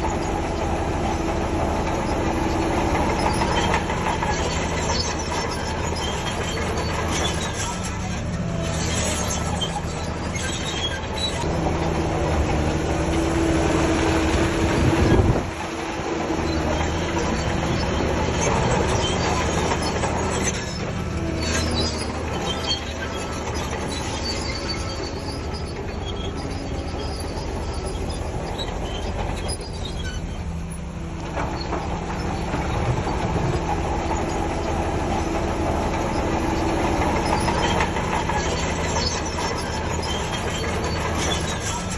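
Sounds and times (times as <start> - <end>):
bulldozer diesel engine: 0.0 - 41.9
steel tracks clattering and squealing: 0.0 - 41.9.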